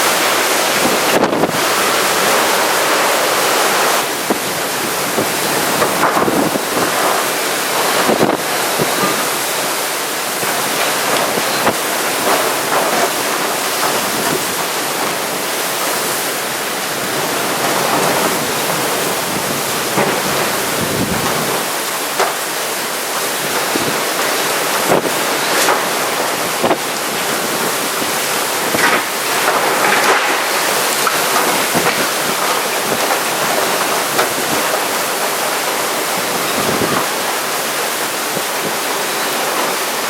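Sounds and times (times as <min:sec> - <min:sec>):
strong gusting wind: 0:00.0 - 0:22.0, 0:24.7 - 0:40.0
heavy rain: 0:00.0 - 0:40.0
wind buffeting the microphone: 0:00.1 - 0:21.9, 0:23.4 - 0:39.4.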